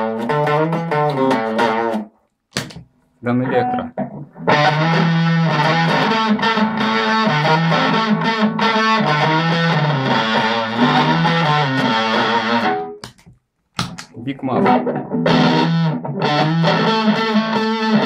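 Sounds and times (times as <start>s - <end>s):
fuzz distorted electric guitar: 0.0s - 2.1s, 3.5s - 13.0s, 14.5s - 18.0s.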